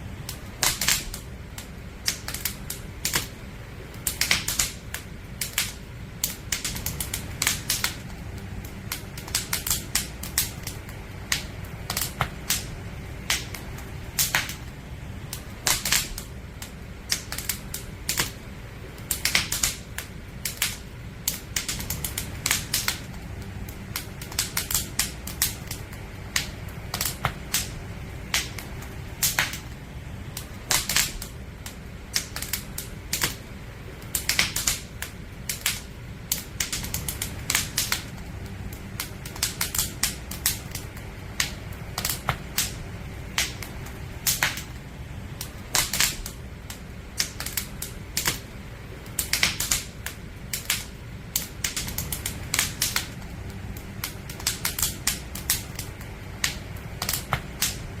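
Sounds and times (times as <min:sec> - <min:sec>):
burning logs crackling: 0:00.0 - 0:58.0
low rumble of flames: 0:00.0 - 0:58.0.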